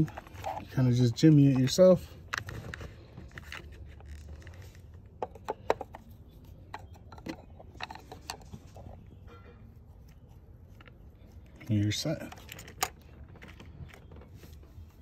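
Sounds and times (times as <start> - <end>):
plastic connector scraping and rattling: 0.0 - 9.3, 10.1 - 14.6.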